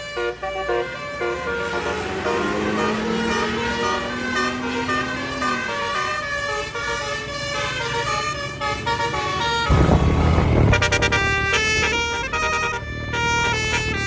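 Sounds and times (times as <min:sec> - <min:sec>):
multi-tone bus air horn tune: 0:00.0 - 0:09.8, 0:10.5 - 0:14.0.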